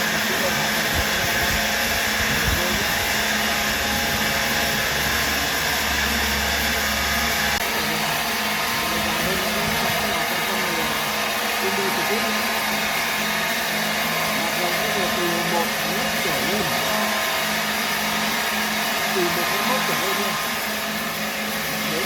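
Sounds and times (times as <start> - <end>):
machine whirring: 0.0 - 22.0.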